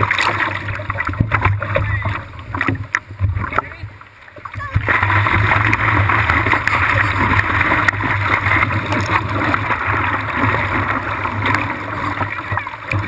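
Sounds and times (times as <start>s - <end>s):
water rushing along surfboard: 0.0s - 13.0s.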